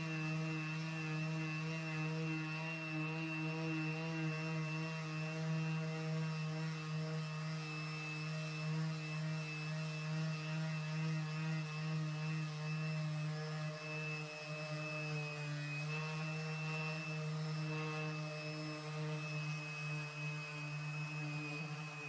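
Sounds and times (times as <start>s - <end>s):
power sander motor drone and whine: 0.0s - 22.0s.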